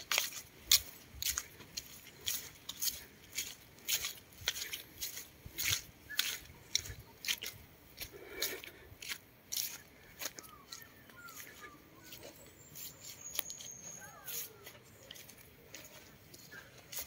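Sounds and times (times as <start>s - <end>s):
footsteps through grass and dry leaves: 0.0s - 17.0s.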